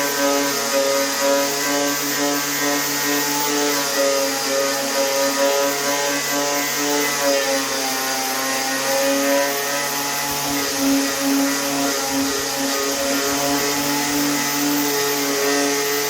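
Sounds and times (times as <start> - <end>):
electric power tool whining: 0.0 - 16.0.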